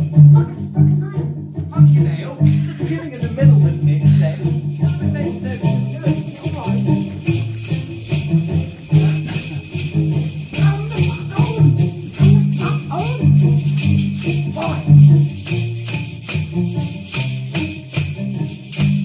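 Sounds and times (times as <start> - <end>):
sleigh bells jingling: 0.0 - 0.8, 1.7 - 19.0
steady bass line: 0.0 - 19.0
upbeat music: 1.9 - 19.0.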